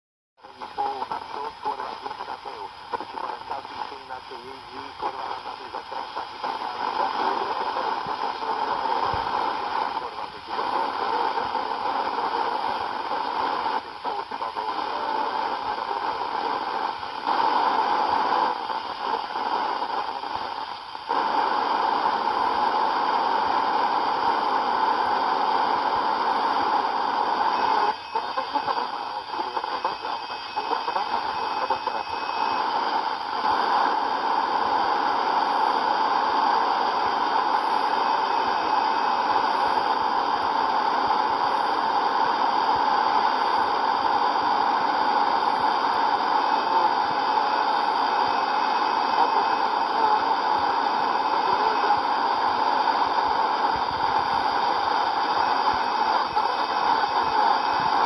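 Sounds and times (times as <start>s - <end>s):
radio static hiss: 0.4s - 58.0s.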